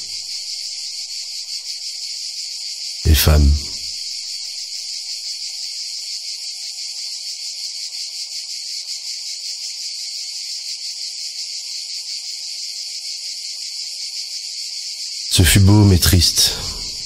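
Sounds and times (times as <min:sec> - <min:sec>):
insect chorus shrilling: 0:00.0 - 0:17.0.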